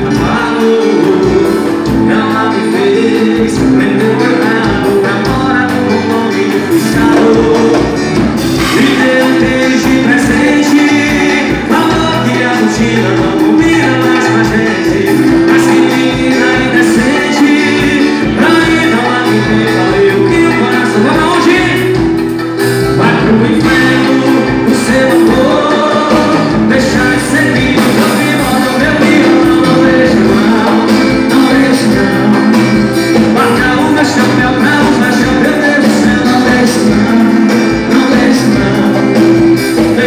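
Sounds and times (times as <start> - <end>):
acoustic guitar: 0.0 - 40.0
drums: 0.0 - 40.0
electric guitar: 0.0 - 40.0
man singing: 0.0 - 40.0.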